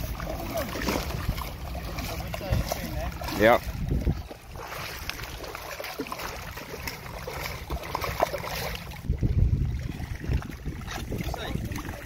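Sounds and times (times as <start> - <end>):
seawater splashing and sloshing: 0.0 - 12.0.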